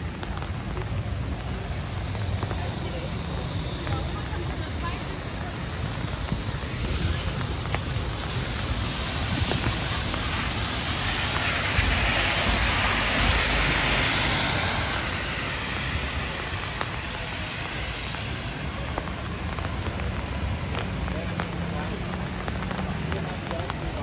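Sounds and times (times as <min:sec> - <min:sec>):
heavy rain on street: 0:00.0 - 0:24.0.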